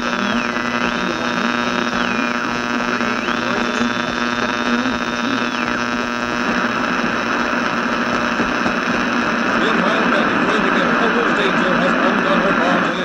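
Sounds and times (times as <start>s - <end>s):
electrical hum and buzz: 0.0s - 13.0s.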